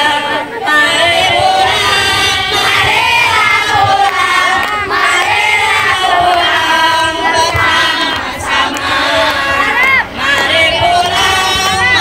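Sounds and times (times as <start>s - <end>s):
young voices chanting a cheer: 0.0s - 12.0s.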